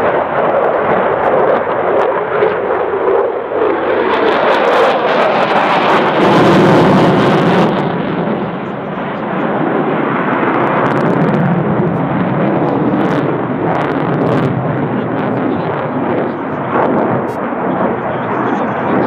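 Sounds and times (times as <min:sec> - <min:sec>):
fighter jet roaring: 0:00.0 - 0:19.0.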